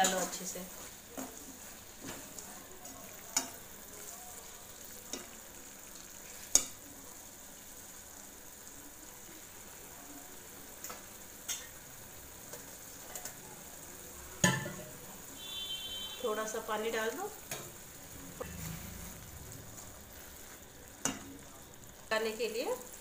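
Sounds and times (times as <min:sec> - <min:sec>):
food sizzling in a metal pan: 0:00.0 - 0:23.0.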